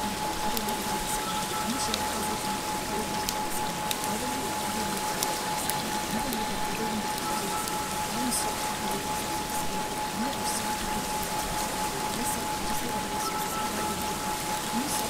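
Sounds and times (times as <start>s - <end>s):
rain-like hiss: 0.0s - 15.0s.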